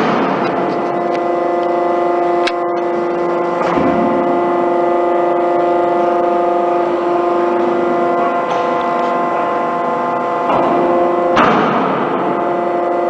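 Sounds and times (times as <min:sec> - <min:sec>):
hydraulic drive humming: 0:00.0 - 0:13.0.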